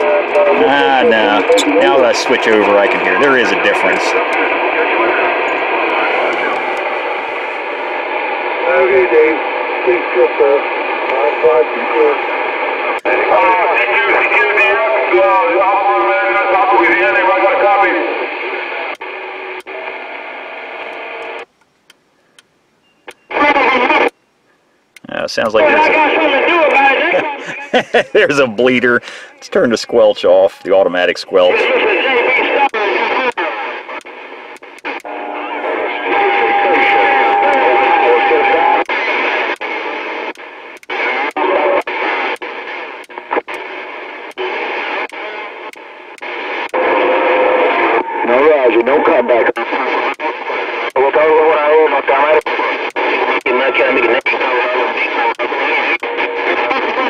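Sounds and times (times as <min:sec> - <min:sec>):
garbled radio signal hiss: 0:00.0 - 0:19.8, 0:23.1 - 0:57.0
steady radio tones: 0:00.0 - 0:57.0.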